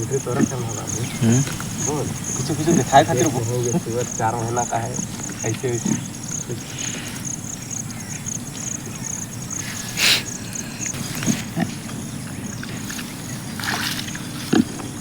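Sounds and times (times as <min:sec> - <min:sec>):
pigs grunting: 0:00.0 - 0:15.0.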